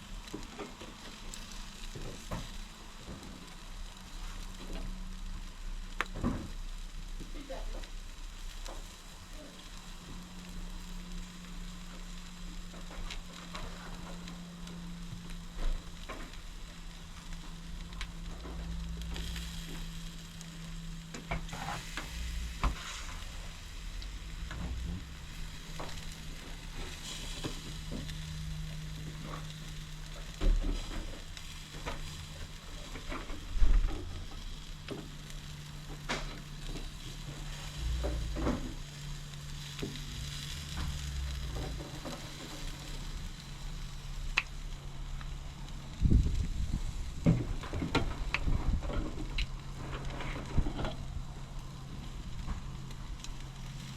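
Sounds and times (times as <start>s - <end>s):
chicken sizzling on a grill: 0.0s - 53.9s
steady low hum: 0.0s - 53.9s.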